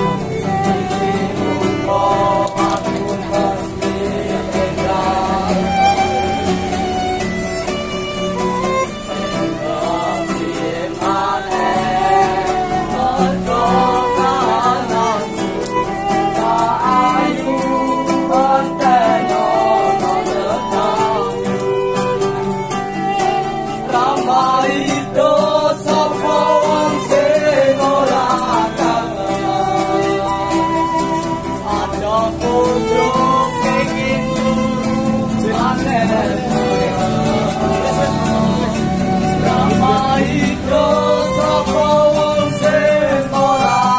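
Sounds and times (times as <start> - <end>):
person singing: 0.0 - 43.9
strummed acoustic guitar: 0.0 - 43.9
violin melody: 0.0 - 43.9.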